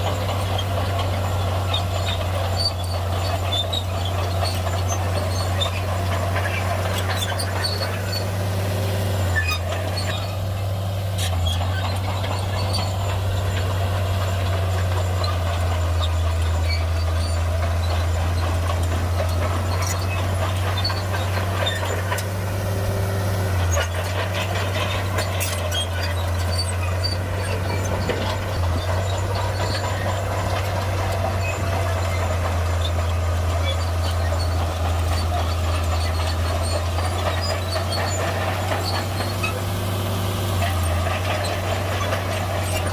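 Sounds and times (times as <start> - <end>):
bulldozer diesel engine droning: 0.0 - 42.9.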